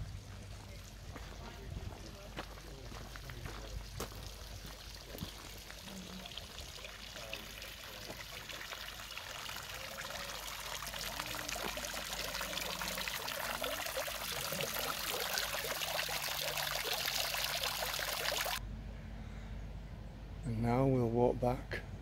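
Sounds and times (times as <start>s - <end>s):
fountain water splashing: 0.0s - 18.6s.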